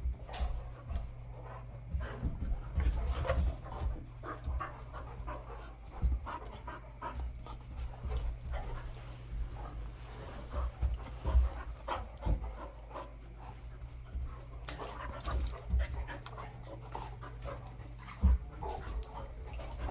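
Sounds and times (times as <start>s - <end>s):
dogs panting: 0.0s - 19.9s
scuffling noises: 0.0s - 19.9s.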